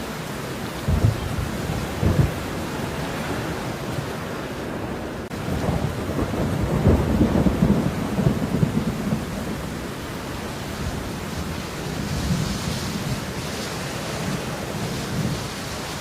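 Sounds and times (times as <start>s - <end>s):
steady falling rain: 0.0s - 16.0s.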